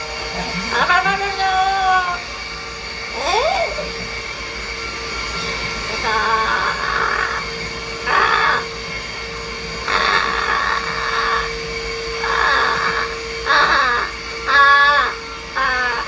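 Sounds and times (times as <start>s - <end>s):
vacuum cleaner humming: 0.0s - 16.0s
parrot squawking: 0.1s - 4.1s, 5.3s - 16.0s.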